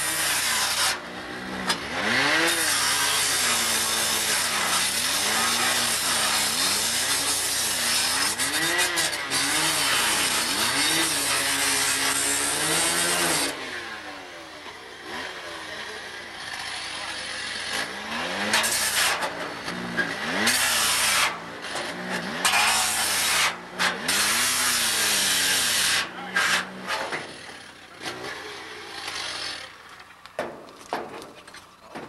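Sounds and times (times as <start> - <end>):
blade grinding through metal: 0.0 - 14.0, 16.3 - 29.8
rescue saw engine revving: 0.0 - 30.1.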